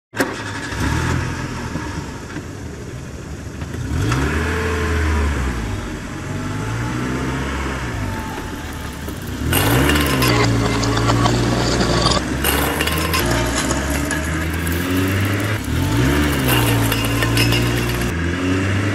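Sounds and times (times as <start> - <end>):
vehicle engine revving: 3.7 - 18.9.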